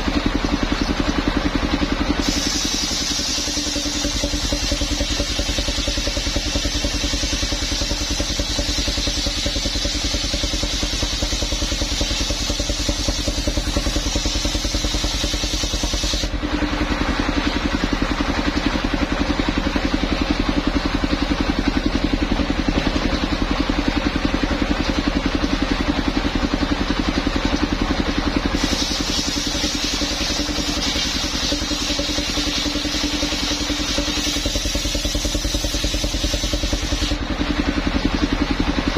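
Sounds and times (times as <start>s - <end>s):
sawing machine engine running: 0.0s - 38.9s.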